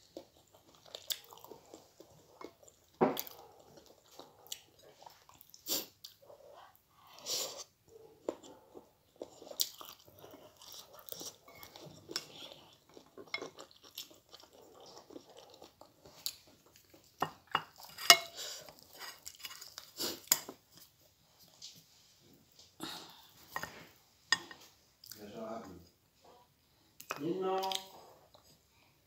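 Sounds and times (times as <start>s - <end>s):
person chewing and crunching food: 0.0s - 21.8s, 26.8s - 28.8s.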